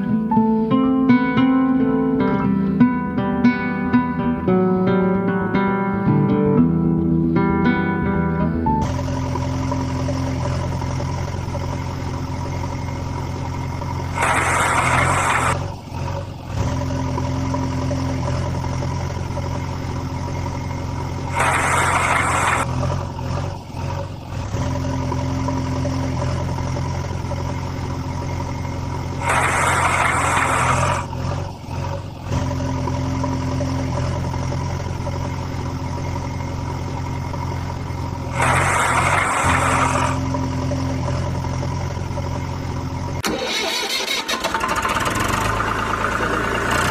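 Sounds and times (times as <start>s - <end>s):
engine idling: 7.2s - 46.9s.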